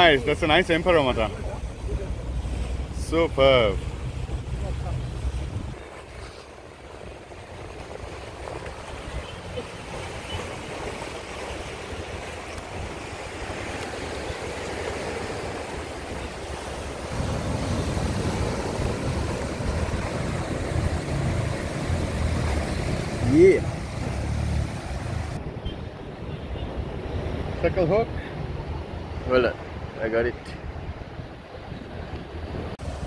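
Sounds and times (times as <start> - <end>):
sea surf against rocks: 0.0 - 33.0.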